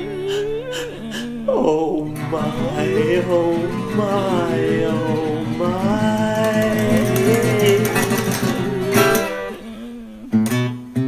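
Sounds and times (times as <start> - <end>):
person singing: 0.0 - 10.5
strummed acoustic guitar: 2.0 - 11.0.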